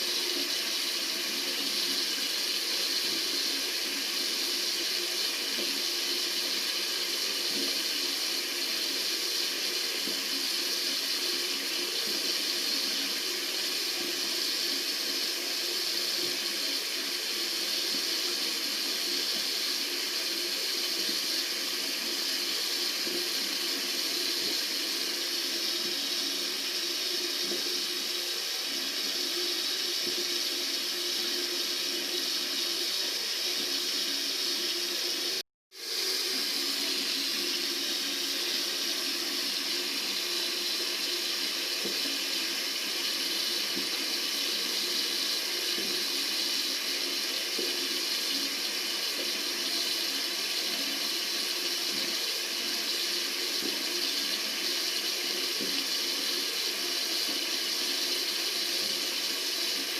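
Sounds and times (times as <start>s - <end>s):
tap water running: 0.0s - 59.9s.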